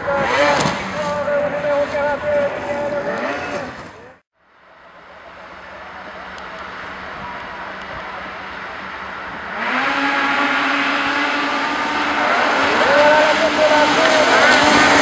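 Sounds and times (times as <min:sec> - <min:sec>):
snowmobile engines revving: 0:00.0 - 0:04.2, 0:05.0 - 0:15.0.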